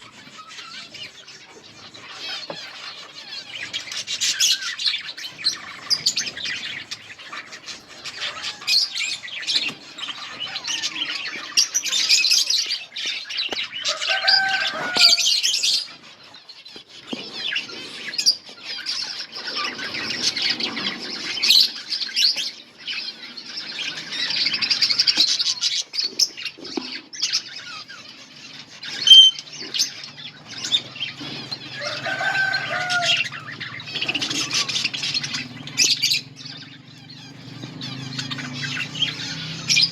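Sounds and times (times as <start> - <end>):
budgerigars chattering and chirping: 0.0 - 39.9
harsh low bird calls: 0.0 - 39.9.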